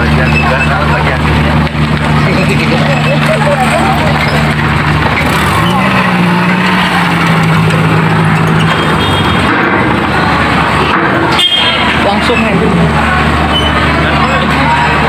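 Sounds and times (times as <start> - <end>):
loud steady rushing noise: 0.0 - 15.0
truck engine under load: 0.0 - 15.0.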